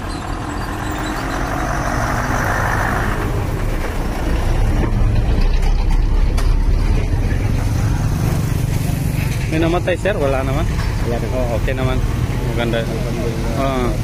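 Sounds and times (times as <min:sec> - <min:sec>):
motorcycle passing: 0:00.0 - 0:14.0
road vehicle engines rumbling: 0:00.0 - 0:14.0.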